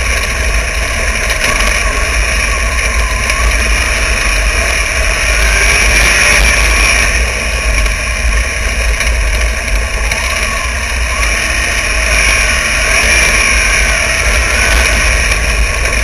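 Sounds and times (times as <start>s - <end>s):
heavy low rumble: 0.0s - 16.0s
race car engine at speed: 0.0s - 16.0s.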